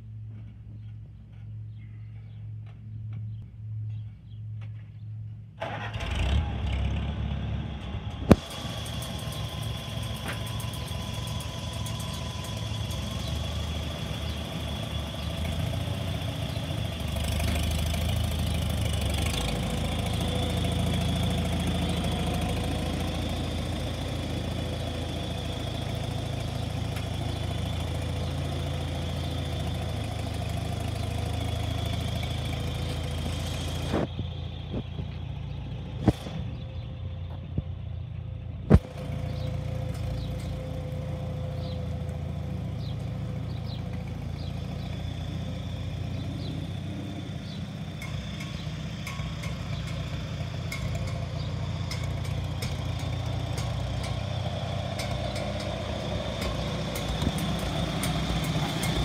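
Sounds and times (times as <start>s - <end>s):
tractor engine running: 0.0s - 59.0s
tractor engine cranking: 5.6s - 36.9s, 38.7s - 59.0s.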